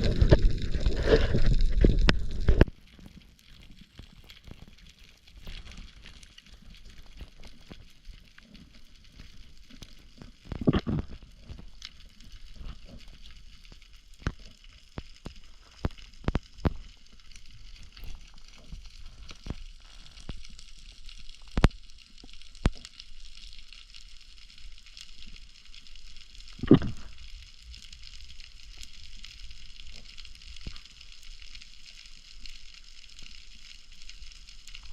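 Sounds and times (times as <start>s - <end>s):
faint underwater crackling hiss: 0.0s - 34.9s.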